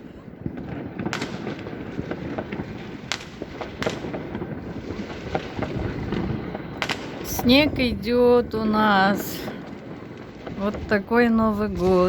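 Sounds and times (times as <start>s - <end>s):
distant firework cracks and pops: 0.0s - 8.0s, 8.8s - 12.0s
loud firework bangs: 0.0s - 12.0s.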